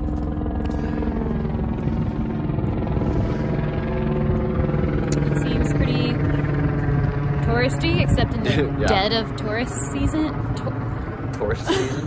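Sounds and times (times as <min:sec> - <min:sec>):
helicopter rotor beat: 0:00.0 - 0:12.0.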